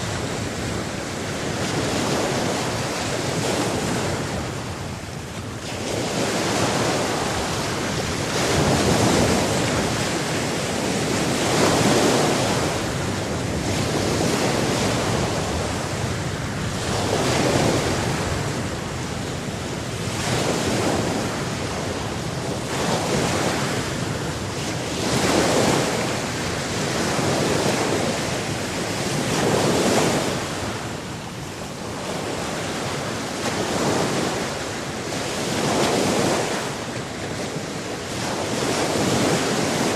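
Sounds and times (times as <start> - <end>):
sea waves breaking: 0.0 - 39.9
wind rumble on microphone: 0.0 - 39.9.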